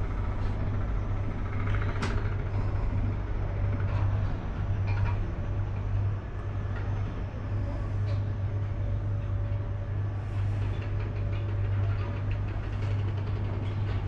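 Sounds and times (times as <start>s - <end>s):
cable car hum and rumble: 0.0s - 14.0s
faint steady whine: 0.0s - 14.0s.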